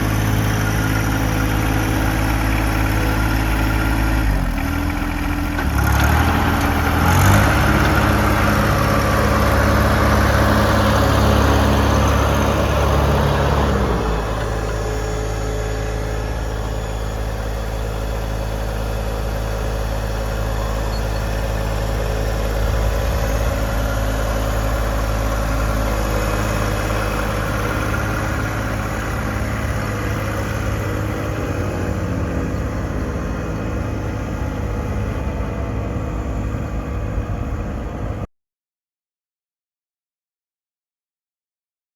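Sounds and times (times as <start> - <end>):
tractor diesel engine running: 0.0 - 38.3.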